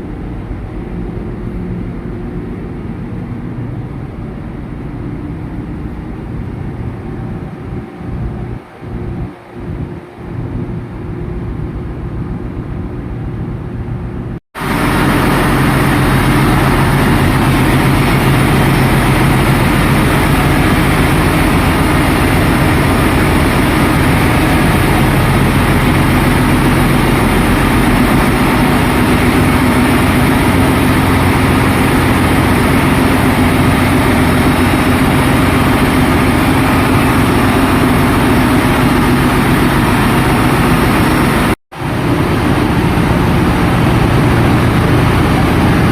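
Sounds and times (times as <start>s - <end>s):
engine room machinery drone: 0.0s - 45.9s.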